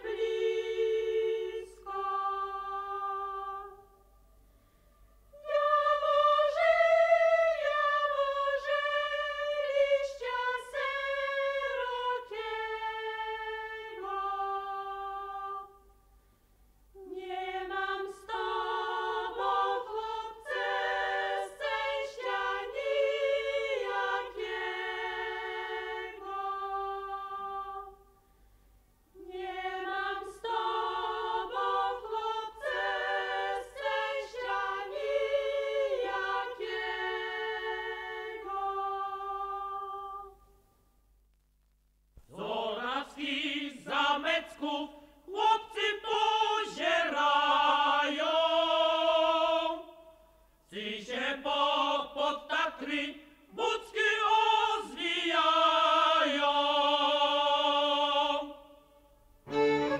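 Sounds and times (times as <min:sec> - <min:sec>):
choir singing a cappella: 0:00.0 - 0:04.1, 0:05.3 - 0:15.9, 0:17.0 - 0:28.2, 0:29.1 - 0:40.5, 0:42.3 - 0:59.9.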